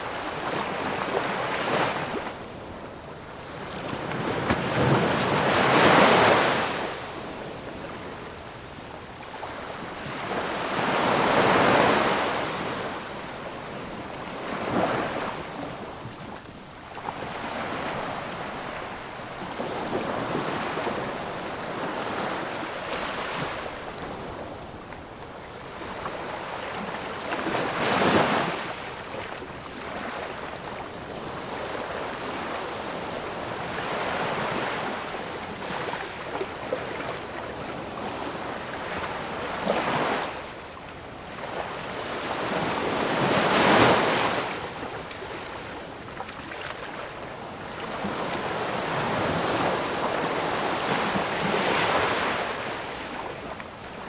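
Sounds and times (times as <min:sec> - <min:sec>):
ocean waves breaking on shore: 0:00.0 - 0:24.8, 0:25.5 - 0:54.0.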